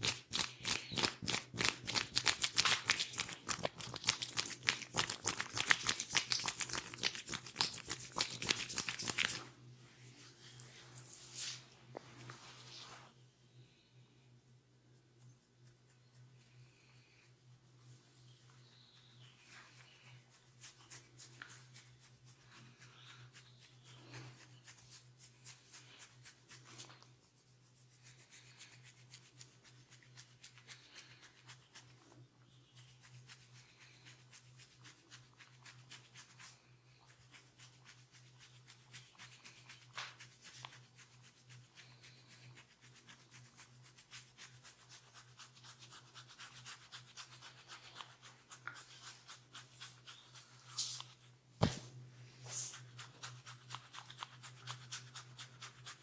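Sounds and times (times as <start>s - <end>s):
hands rubbing skin and hair: 0.0s - 13.2s, 14.9s - 56.0s.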